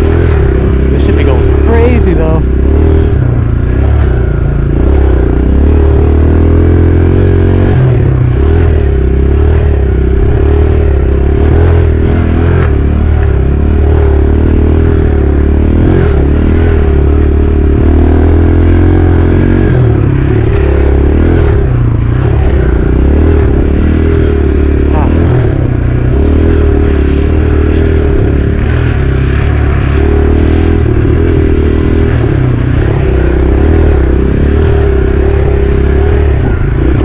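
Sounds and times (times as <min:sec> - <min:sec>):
dirt bike engine running: 0:00.0 - 0:37.0.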